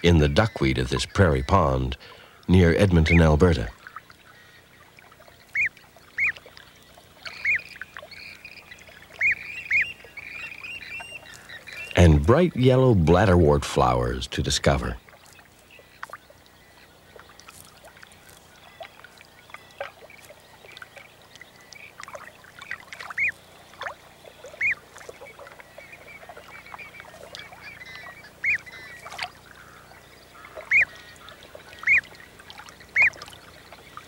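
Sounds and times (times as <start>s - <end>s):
coots peeping: 0.0s - 12.3s, 14.8s - 34.0s
faint chattering bird calls: 0.0s - 34.0s.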